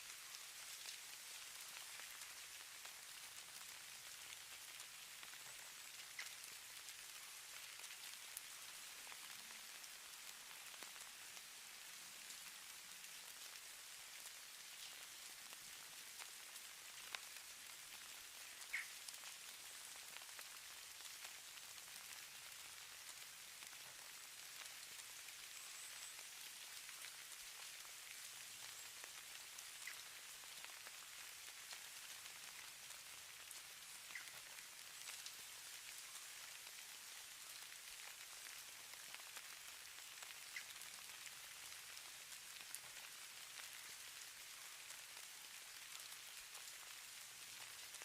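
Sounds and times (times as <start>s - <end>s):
light ticks of snowflakes: 0.0s - 48.0s
snow falling hiss: 0.0s - 48.0s.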